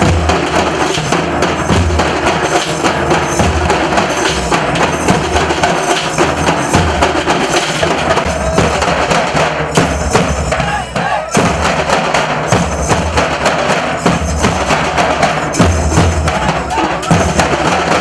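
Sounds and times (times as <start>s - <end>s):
dhol drum stick strokes: 0.0s - 18.0s
heavy bass drum beats: 0.0s - 18.0s.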